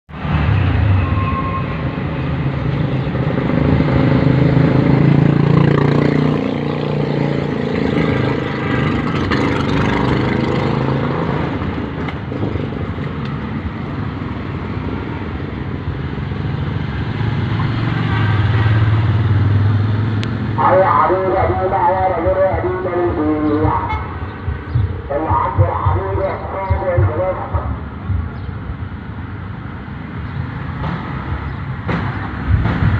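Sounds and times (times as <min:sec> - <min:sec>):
traffic noise: 0:00.1 - 0:32.9.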